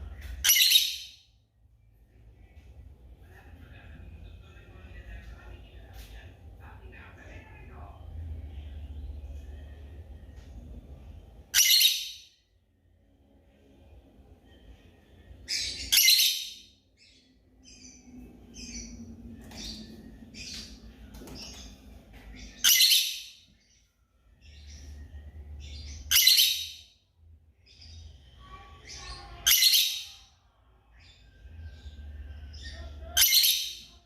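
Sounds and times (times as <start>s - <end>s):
birds chirping softly: 0.0s - 34.0s.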